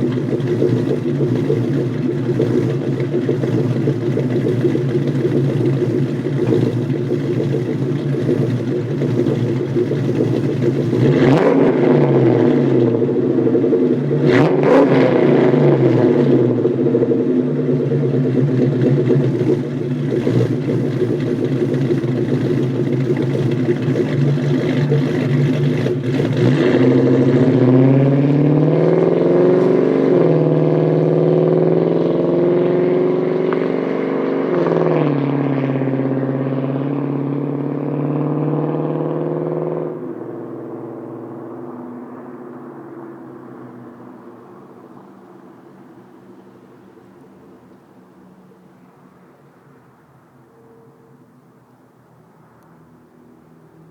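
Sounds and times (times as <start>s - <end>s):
car exhaust accelerating: 0.0s - 50.9s.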